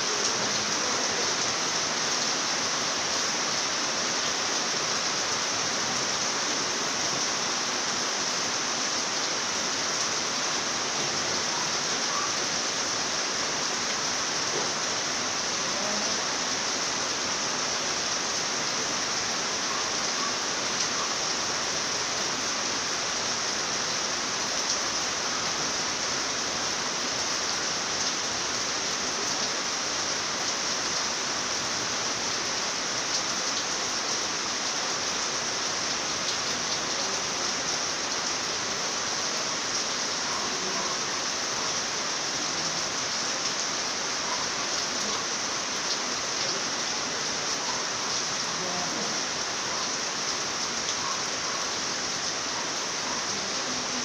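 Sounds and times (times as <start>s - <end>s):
rain falling steadily: 0.0s - 54.0s.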